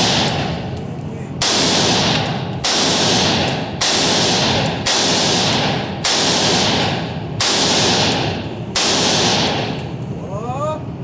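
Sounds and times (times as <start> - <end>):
gunshots echoing: 0.0 - 0.8, 1.4 - 10.0.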